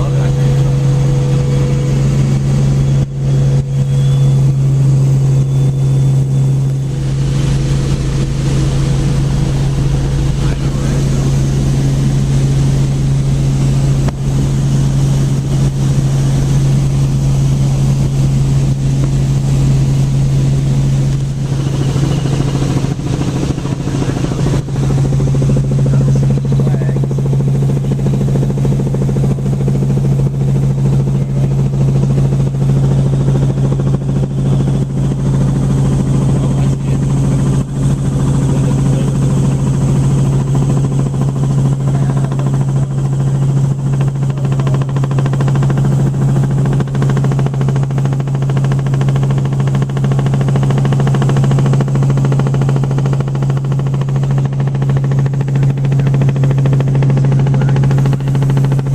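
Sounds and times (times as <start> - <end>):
helicopter cabin drone: 0.0 - 58.9.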